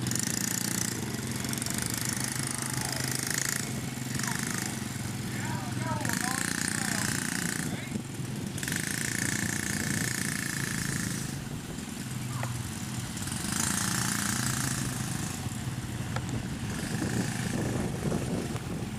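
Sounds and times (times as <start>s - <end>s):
atv engine running: 0.0s - 18.9s
high engine whine: 0.0s - 18.9s.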